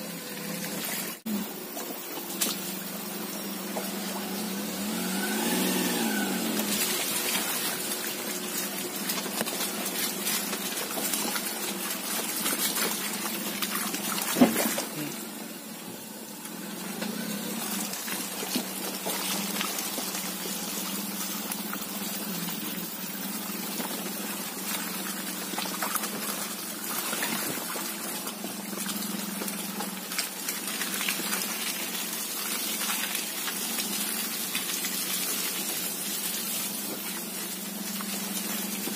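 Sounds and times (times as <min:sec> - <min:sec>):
car engine running: 0:00.0 - 0:38.9
tyres sloshing through mud: 0:00.0 - 0:38.9.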